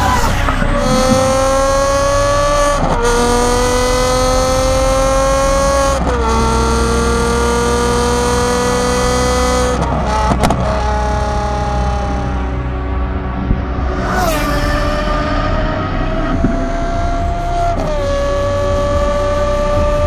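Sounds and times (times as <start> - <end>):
sports car engine accelerating: 0.0 - 20.0.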